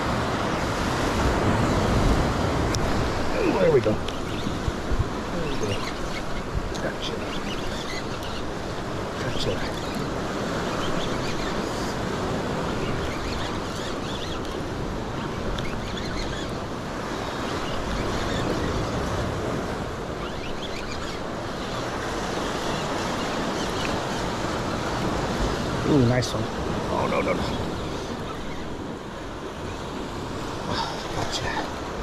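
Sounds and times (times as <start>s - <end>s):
ocean surf washing over rocks: 0.0s - 32.0s.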